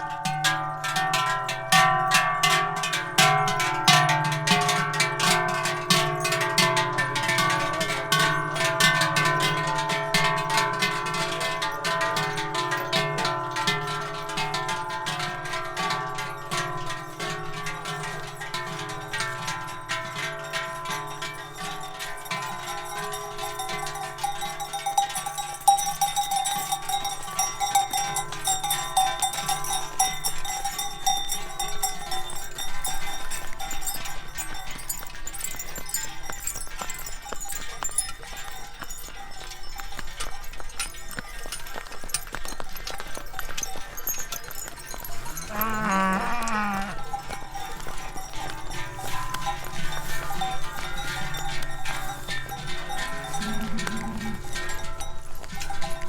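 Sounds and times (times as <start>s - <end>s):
cowbells clanging: 0.0s - 56.0s.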